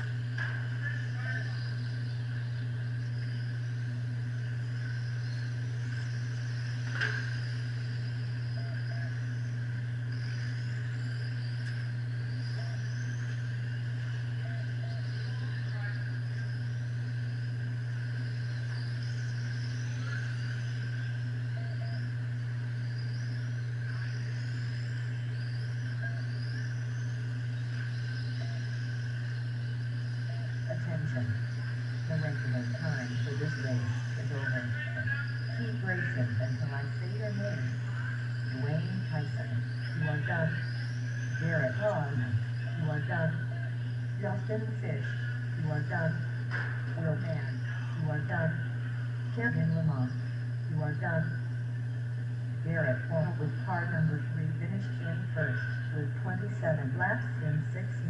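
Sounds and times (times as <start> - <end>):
electric motors whining: 0.0 - 58.0
low hum: 0.0 - 58.0.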